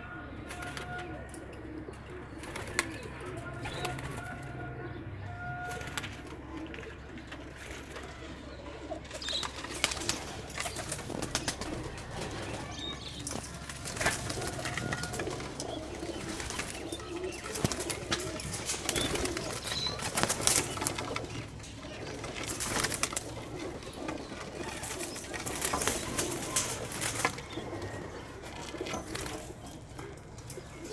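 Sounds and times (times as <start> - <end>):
pigeons cooing: 0.0 - 30.9.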